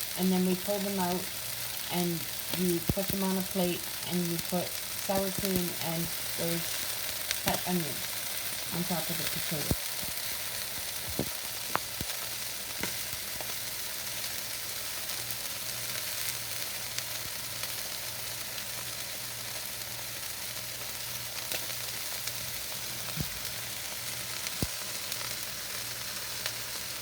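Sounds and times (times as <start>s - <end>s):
meat sizzling in a frying pan: 0.0s - 27.0s.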